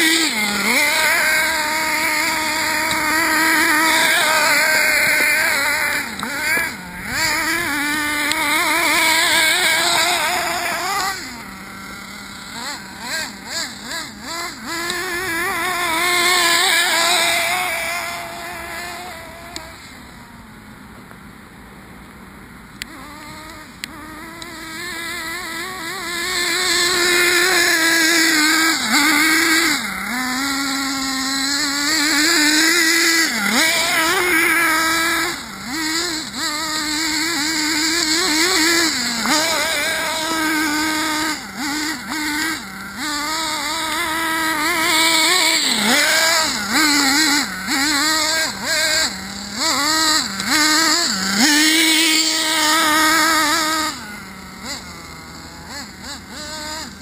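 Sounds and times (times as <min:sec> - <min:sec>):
model car engine revving: 0:00.0 - 0:57.0.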